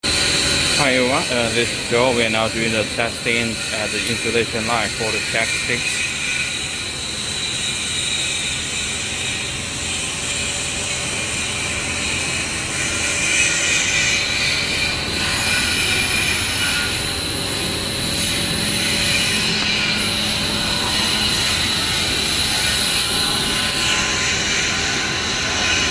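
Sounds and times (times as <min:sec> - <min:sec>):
production machinery running: 0:00.0 - 0:25.9
steady high whine: 0:00.1 - 0:25.9.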